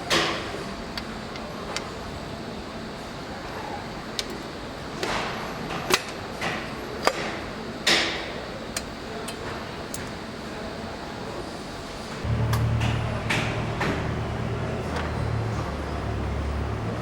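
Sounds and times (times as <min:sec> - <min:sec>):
steady factory background: 0:00.0 - 0:17.0.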